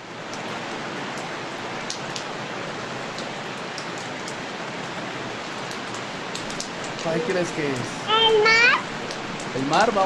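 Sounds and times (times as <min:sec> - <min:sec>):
rain hiss: 0:00.0 - 0:10.0
raindrop ticks: 0:01.1 - 0:02.3, 0:03.1 - 0:10.0.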